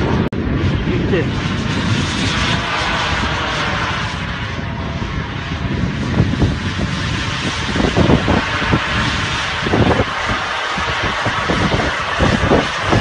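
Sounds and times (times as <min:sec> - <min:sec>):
model jet engine rushing: 0:00.0 - 0:13.0.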